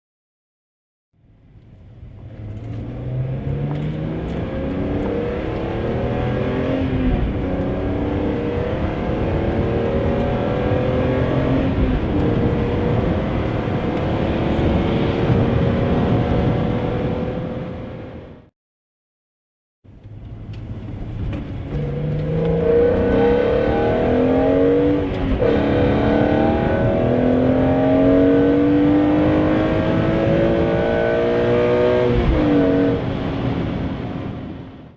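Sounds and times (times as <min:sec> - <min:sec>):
car engine accelerating hard: 0:02.0 - 0:18.5, 0:20.1 - 0:34.9.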